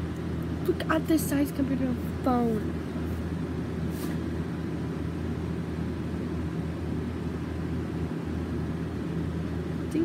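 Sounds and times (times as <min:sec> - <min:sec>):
low rumble and hum: 0:00.0 - 0:10.0.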